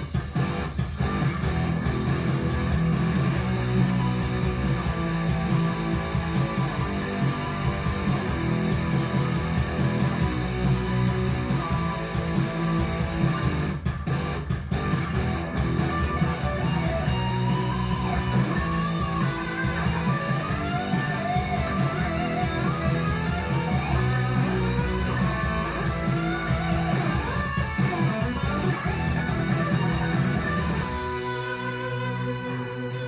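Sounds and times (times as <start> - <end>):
strong bass: 0.0 - 32.7
guitar instrumental music: 0.0 - 33.0
lead guitar with bending notes: 0.4 - 33.0.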